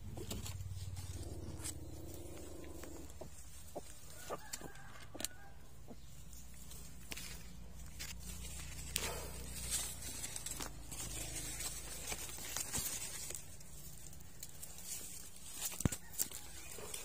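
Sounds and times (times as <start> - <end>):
rustling on gravel and dry vines: 0.0 - 17.0.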